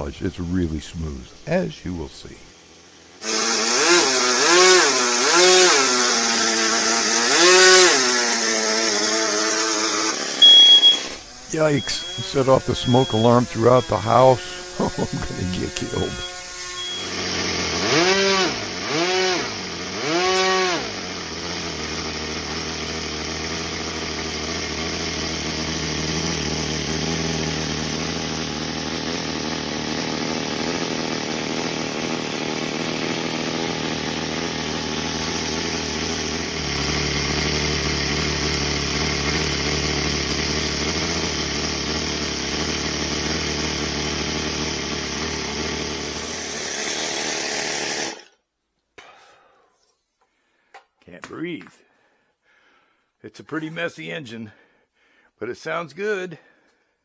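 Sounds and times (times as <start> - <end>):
model engine revving: 0.0 - 48.3.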